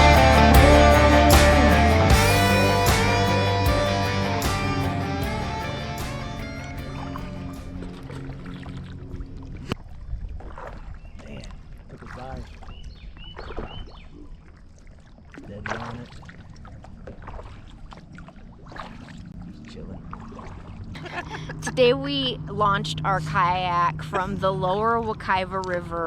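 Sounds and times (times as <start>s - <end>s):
paddle splashing in river water: 0.0s - 21.5s.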